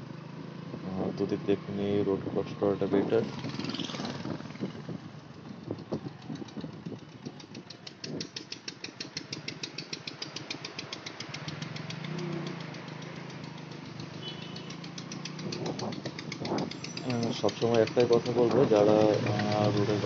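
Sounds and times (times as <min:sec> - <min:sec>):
motorcycle engine running: 0:00.0 - 0:20.0
rapid even ticking: 0:03.2 - 0:20.0.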